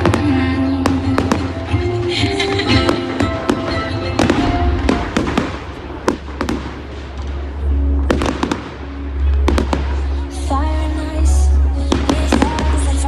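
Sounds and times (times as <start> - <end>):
fireworks bangs and crackles: 0.0 - 10.6, 11.8 - 13.0.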